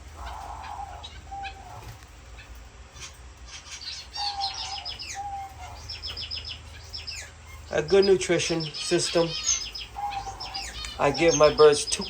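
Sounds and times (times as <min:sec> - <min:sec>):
finches calling: 0:00.0 - 0:12.0.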